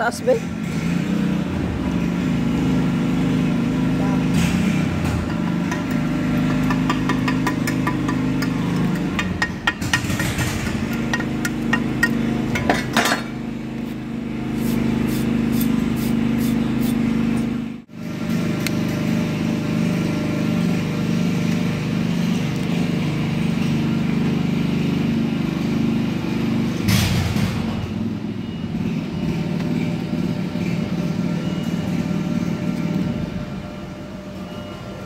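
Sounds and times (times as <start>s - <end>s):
low mechanical drone: 0.0s - 35.0s.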